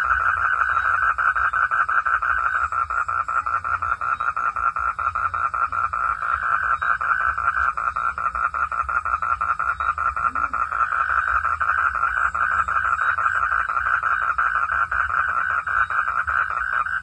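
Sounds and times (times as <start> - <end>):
frogs calling in chorus: 0.0 - 17.0.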